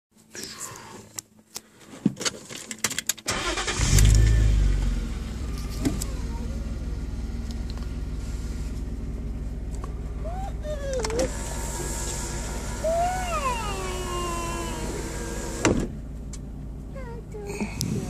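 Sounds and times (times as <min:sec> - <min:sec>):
car engine starting and idling: 0:03.2 - 0:18.0.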